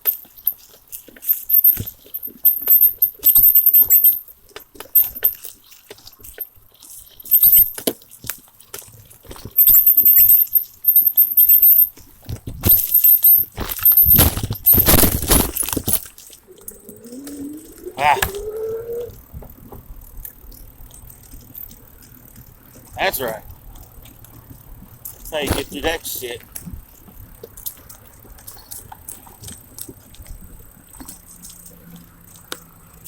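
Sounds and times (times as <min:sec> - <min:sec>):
bicycle squeaking: 0:00.0 - 0:33.0.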